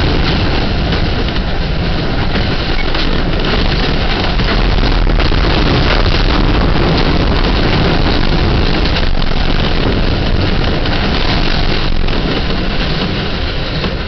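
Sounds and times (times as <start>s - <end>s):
strong wind against boat hull: 0.0s - 14.0s.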